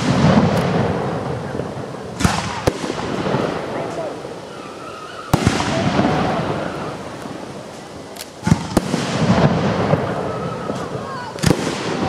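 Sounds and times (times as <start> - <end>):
firework shells bursting: 0.0 - 12.0
rumbling echo: 0.0 - 12.0.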